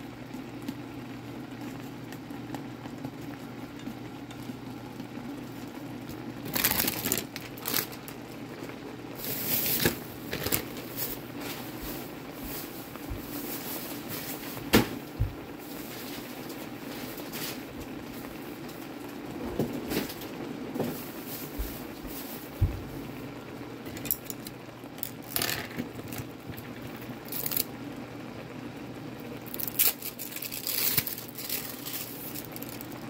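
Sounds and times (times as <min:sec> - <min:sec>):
broth simmering and bubbling: 0:00.0 - 0:33.0
crackling and popping: 0:00.0 - 0:33.0.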